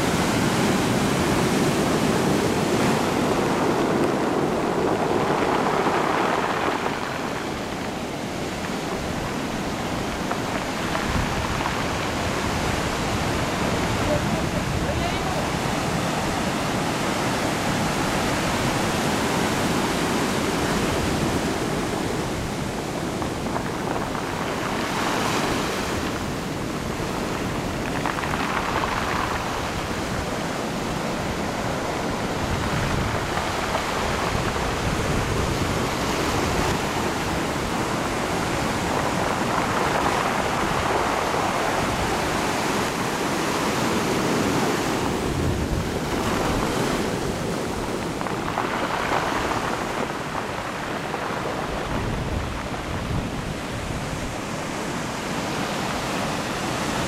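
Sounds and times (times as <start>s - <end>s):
surf breaking over rocks: 0.0s - 57.0s.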